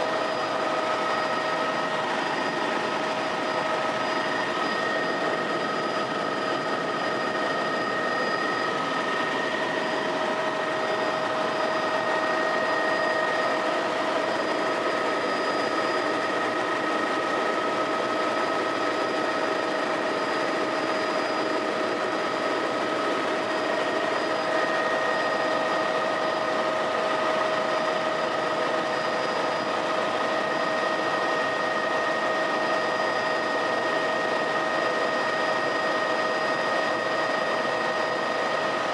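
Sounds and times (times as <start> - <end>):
helicopter running: 0.0 - 38.9.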